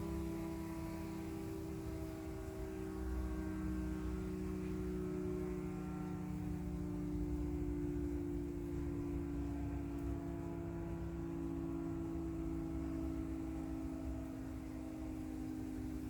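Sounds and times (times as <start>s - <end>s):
warning siren chord: 0.0s - 16.0s.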